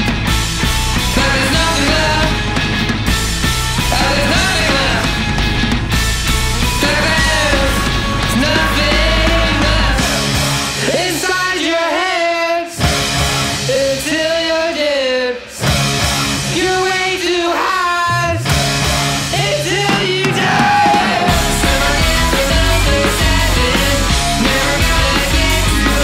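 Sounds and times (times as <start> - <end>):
surf rock band playing: 0.0 - 11.6, 12.8 - 14.3, 15.6 - 17.0, 18.3 - 26.0
man singing: 1.1 - 2.6, 3.8 - 5.4, 6.6 - 18.5, 19.2 - 26.0.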